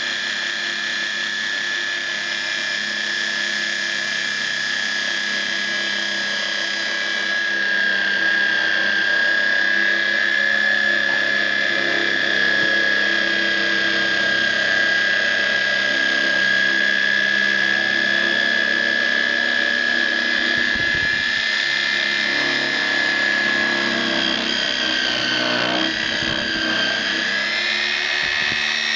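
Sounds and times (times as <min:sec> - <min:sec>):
machine high whine: 0:00.0 - 0:28.9
mechanical hum: 0:00.0 - 0:28.9.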